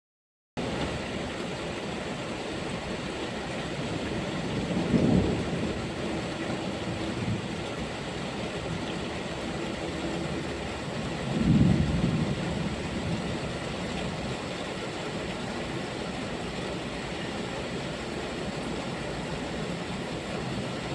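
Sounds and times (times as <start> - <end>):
low rolls of thunder: 0.6 - 20.9
steady rainfall: 0.6 - 20.9.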